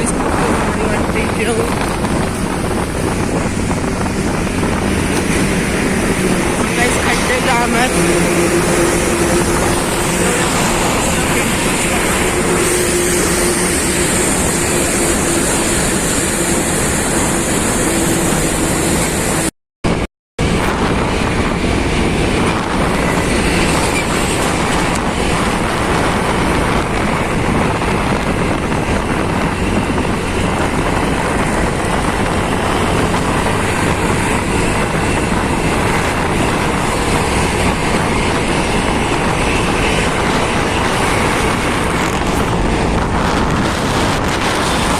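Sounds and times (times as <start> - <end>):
motorcycle road noise: 0.0 - 44.9
wind over microphone: 0.0 - 44.9.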